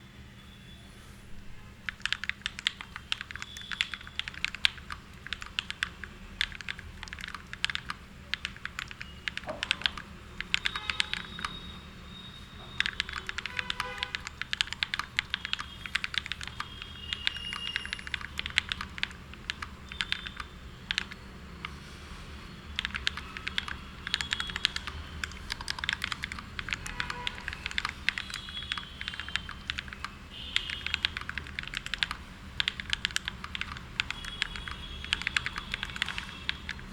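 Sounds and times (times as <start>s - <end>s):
mechanical keyboard typing: 1.8s - 11.7s, 12.6s - 21.8s, 22.7s - 36.9s.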